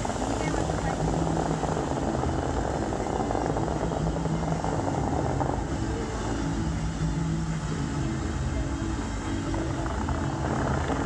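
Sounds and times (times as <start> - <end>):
fountain water jets rushing: 0.0 - 11.0.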